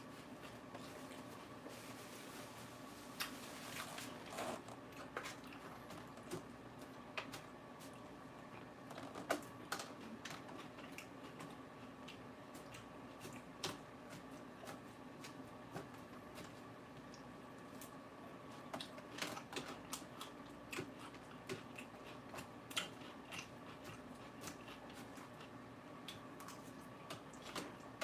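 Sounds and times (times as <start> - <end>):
chewing crisp lettuce: 0.0 - 28.0.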